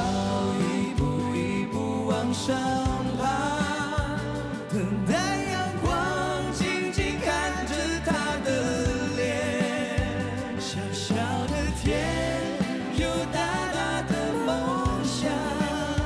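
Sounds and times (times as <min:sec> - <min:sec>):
band playing: 0:00.0 - 0:16.0
men singing pop ballad: 0:00.0 - 0:16.0.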